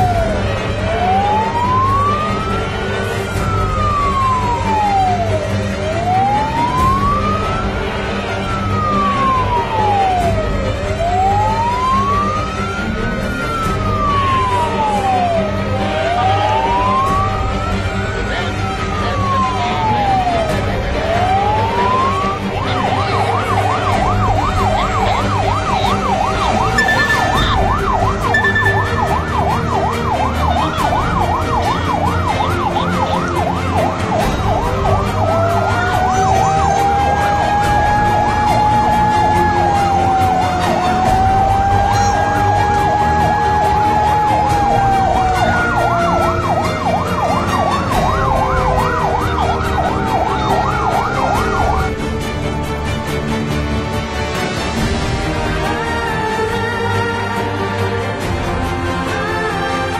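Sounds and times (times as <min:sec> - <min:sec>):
fire engine siren wailing and yelping: 0:00.0 - 0:53.5, 0:54.1 - 0:59.9.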